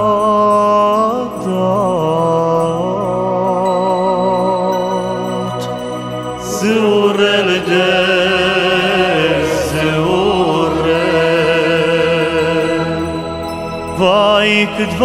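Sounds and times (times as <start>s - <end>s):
person singing ornamented note: 0.0s - 15.0s.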